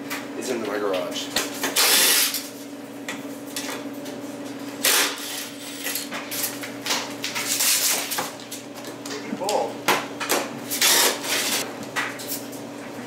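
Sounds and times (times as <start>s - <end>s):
clothes dryer humming: 0.0s - 5.3s, 6.0s - 13.0s.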